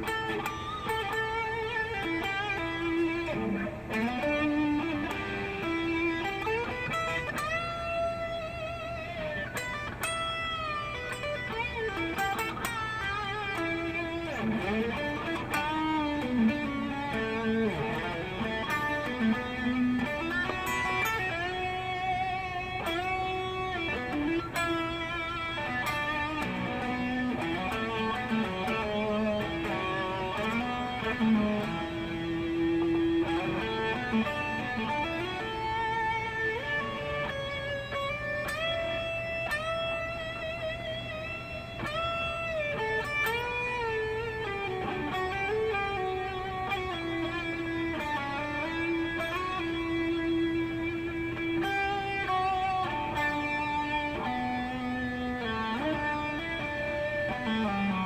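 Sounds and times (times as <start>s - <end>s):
electric guitar with bent notes: 0.0s - 58.0s.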